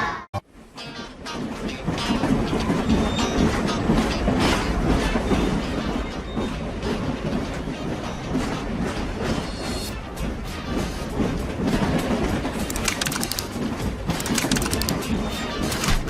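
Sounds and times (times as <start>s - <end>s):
train wheels clacking on rails: 1.3s - 16.0s.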